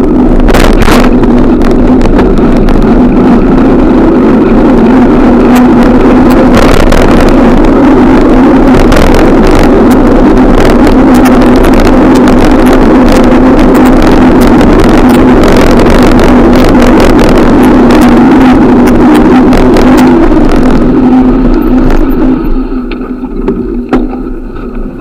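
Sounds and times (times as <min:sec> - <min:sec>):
low hum: 0:00.0 - 0:25.0
wind noise on microphone: 0:00.0 - 0:25.0.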